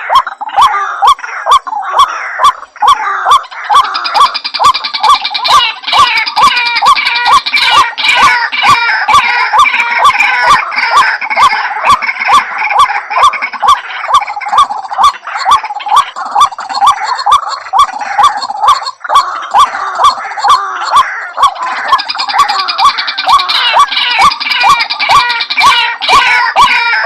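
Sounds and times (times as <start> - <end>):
waterhen calling: 0.0 - 27.0.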